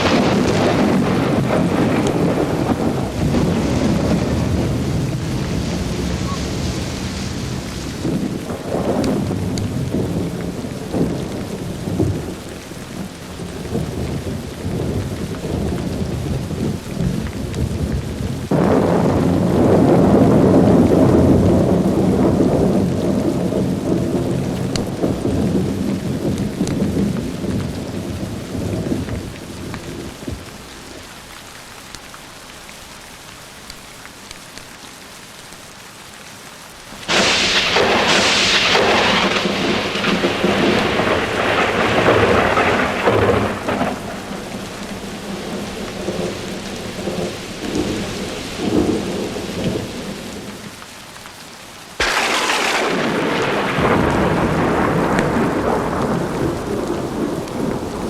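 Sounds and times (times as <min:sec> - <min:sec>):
sharp thunderclap: 0:00.0 - 0:12.4, 0:13.0 - 0:30.4, 0:37.0 - 0:50.5, 0:52.0 - 0:58.0
rolling thunder: 0:00.0 - 0:30.6, 0:37.0 - 0:50.7, 0:52.0 - 0:58.0
steady rain: 0:00.0 - 0:58.0.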